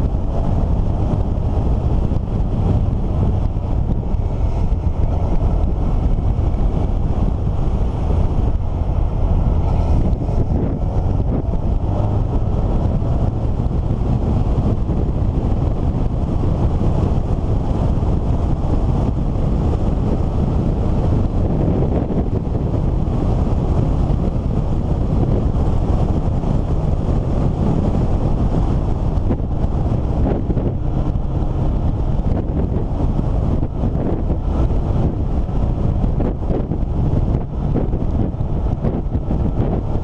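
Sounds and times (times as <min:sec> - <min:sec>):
vehicle rumble: 0:00.0 - 0:40.0
wind buffeting microphone: 0:00.0 - 0:40.0.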